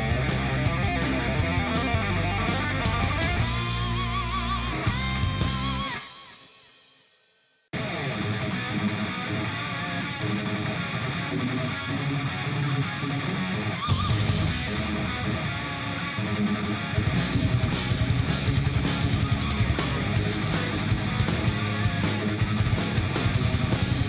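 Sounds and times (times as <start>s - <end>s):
rock music with electric guitar: 0.0s - 6.6s, 7.7s - 24.0s.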